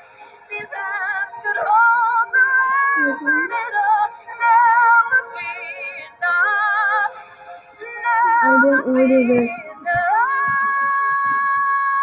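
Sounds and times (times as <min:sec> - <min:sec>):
woman singing with vibrato: 0:00.6 - 0:07.1, 0:07.8 - 0:12.0.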